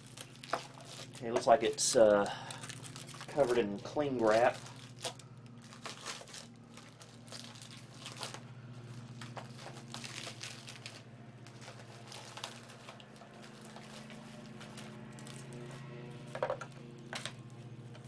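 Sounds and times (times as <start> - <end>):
plastic wrap crinkling and tearing: 0.0 - 18.0
steady low hum: 0.0 - 18.0.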